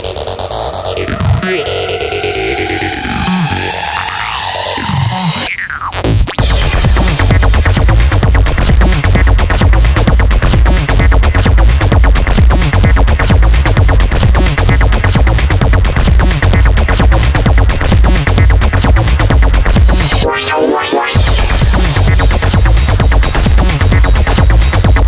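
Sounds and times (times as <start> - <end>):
electronic dance music: 0.0 - 25.0.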